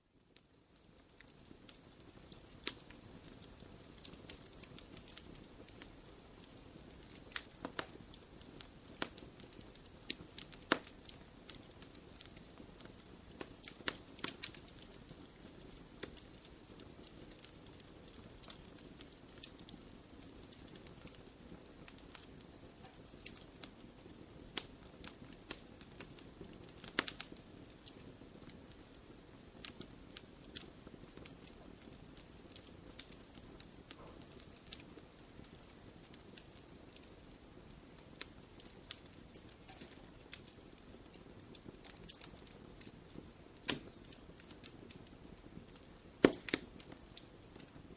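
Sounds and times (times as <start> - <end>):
wood fire crackling and popping: 0.1 - 47.9.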